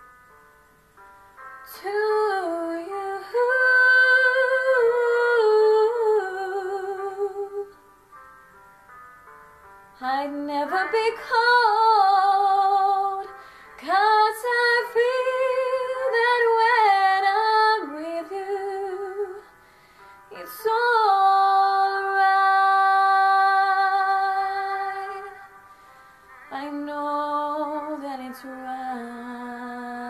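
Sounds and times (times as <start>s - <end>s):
woman singing a slow ballad: 1.6s - 7.8s, 10.0s - 19.6s, 20.3s - 25.6s, 26.5s - 30.0s.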